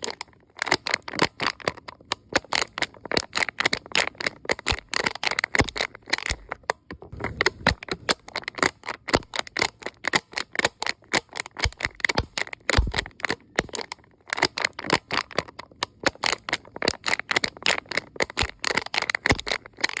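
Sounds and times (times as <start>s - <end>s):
cup crackling and cracking: 0.0s - 20.0s.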